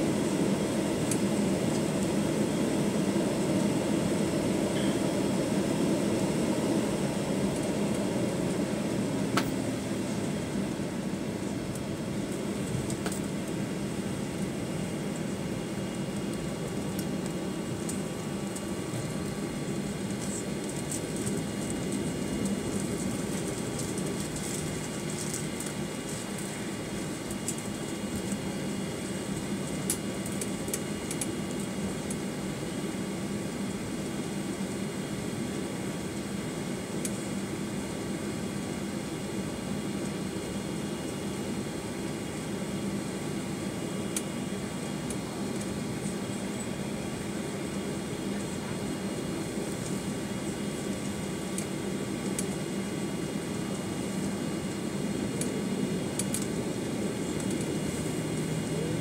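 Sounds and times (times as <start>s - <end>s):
air conditioning hiss: 0.0s - 59.0s
jet engines idling: 0.0s - 59.0s.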